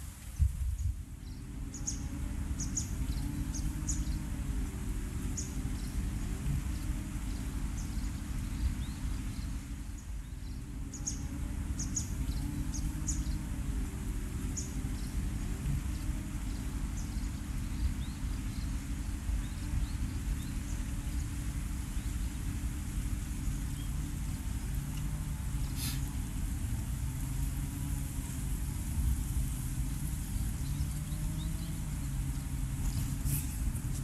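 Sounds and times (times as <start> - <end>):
low rumble of background noise: 0.0 - 34.0.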